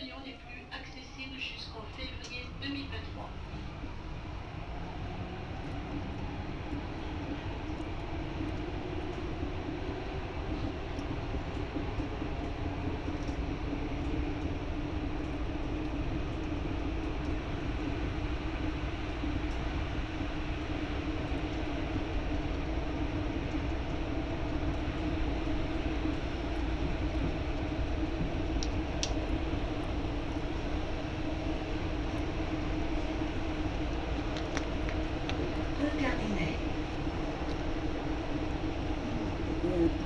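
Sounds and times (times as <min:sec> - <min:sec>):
metro train rumbling: 0:00.0 - 0:40.0.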